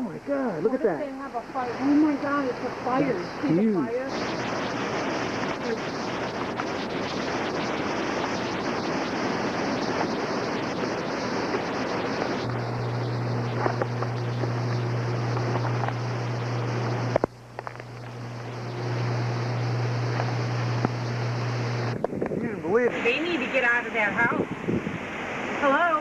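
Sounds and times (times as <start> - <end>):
steady low hum: 0.0 - 26.0
rain: 0.8 - 22.0, 22.9 - 26.0
hurricane wind: 0.9 - 26.0.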